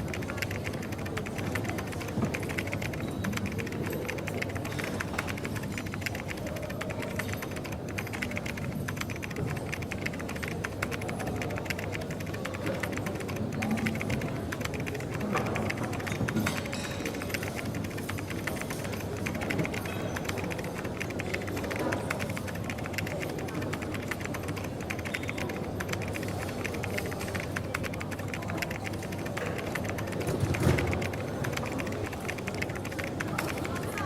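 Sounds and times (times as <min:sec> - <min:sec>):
rapid light clicks: 0:00.0 - 0:34.0.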